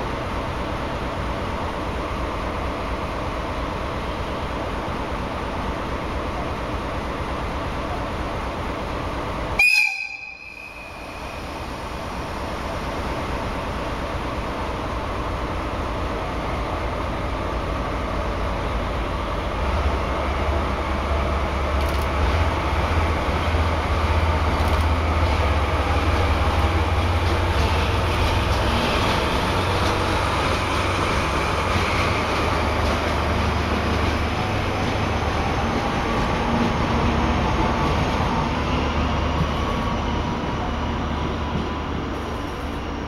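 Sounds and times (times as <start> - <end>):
diesel locomotive engine rumble: 0.0 - 43.0.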